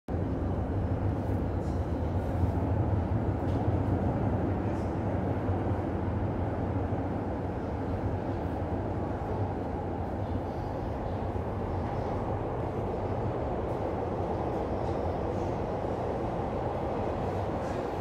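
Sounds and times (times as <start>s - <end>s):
subway train rumble in tunnel: 0.1s - 18.0s.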